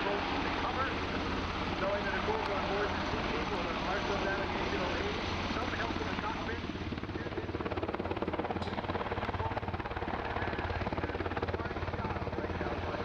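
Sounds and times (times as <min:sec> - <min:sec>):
helicopter engine noise: 0:00.0 - 0:13.0
helicopter rotor blades chopping: 0:00.0 - 0:13.0.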